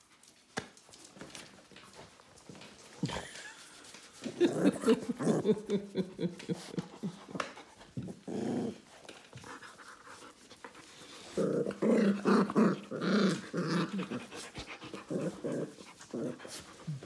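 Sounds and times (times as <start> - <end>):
puppies play-growling: 1.3 - 17.0.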